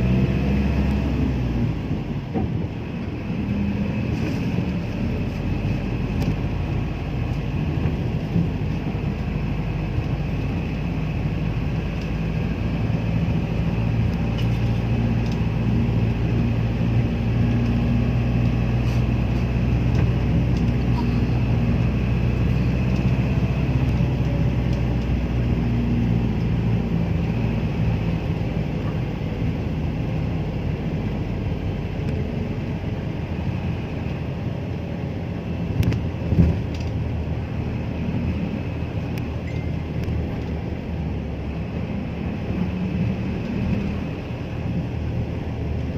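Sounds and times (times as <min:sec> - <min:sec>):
road noise: 0:00.0 - 0:45.9
vehicle engine hum: 0:00.0 - 0:45.9.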